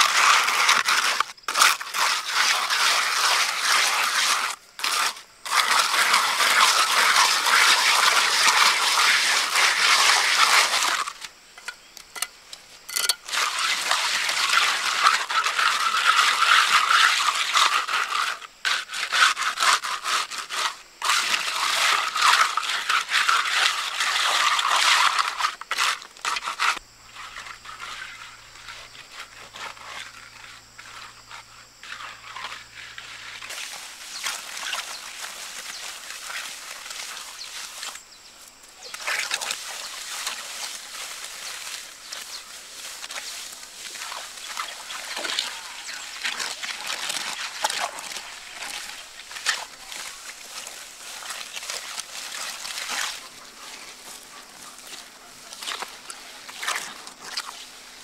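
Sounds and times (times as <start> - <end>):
trowel scraping wet cement: 0.0 - 38.0, 38.7 - 58.0.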